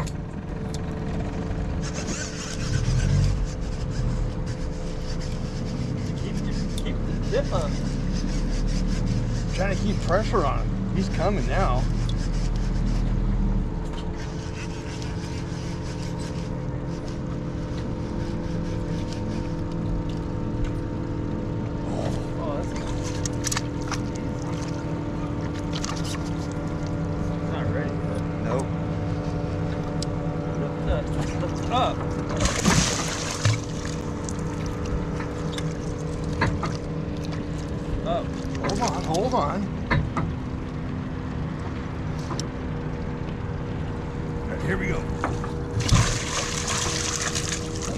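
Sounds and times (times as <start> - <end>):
boat motor running: 0.0 - 47.9.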